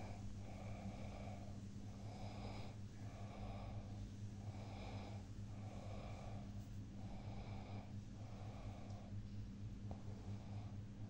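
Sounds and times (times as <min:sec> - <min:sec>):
soft rasping breathing: 0:00.0 - 0:09.2
steady low hum: 0:00.0 - 0:11.0.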